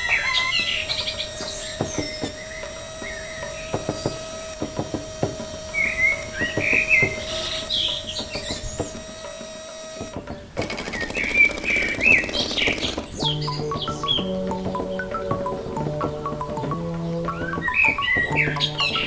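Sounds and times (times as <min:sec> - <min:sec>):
music: 0:00.0 - 0:19.0
small birds chirping and warbling: 0:00.0 - 0:19.0
steady hum: 0:00.0 - 0:19.0.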